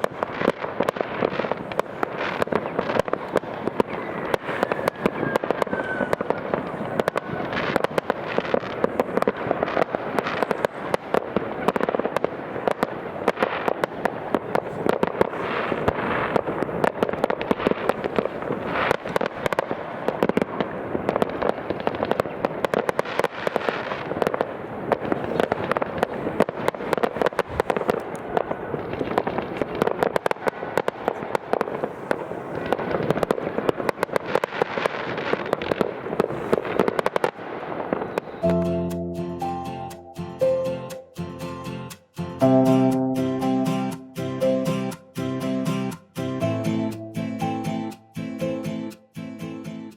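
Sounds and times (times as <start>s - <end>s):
fireworks barrage of bangs and crackles: 0.0s - 41.1s.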